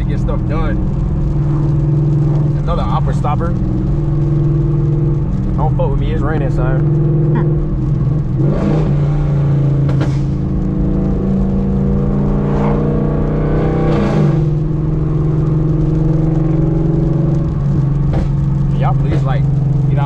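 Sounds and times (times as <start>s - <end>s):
car exhaust drone from inside cabin: 0.0s - 20.0s.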